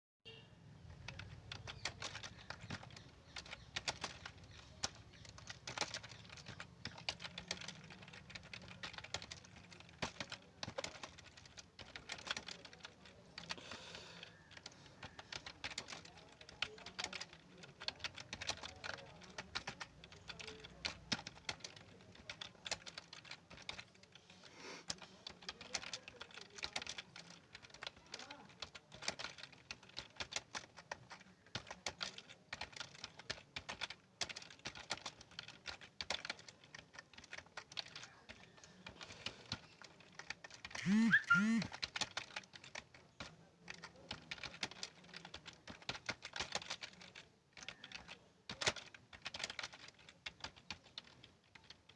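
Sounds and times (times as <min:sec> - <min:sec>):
fast typing on keyboard: 0:00.8 - 0:51.9.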